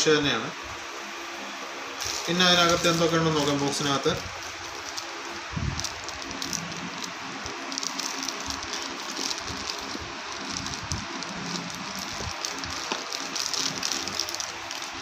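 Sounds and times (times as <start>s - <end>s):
plastic bag crinkling: 2.0s - 15.0s.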